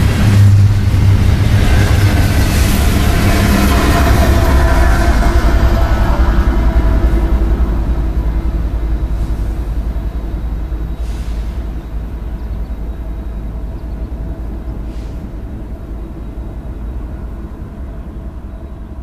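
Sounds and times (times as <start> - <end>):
freight train rumbling: 0.0 - 19.0.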